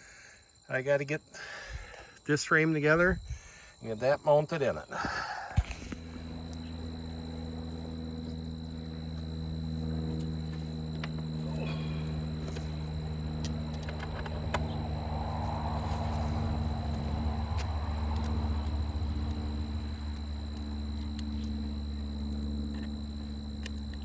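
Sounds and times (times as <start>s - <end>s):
motor humming: 4.6s - 24.0s.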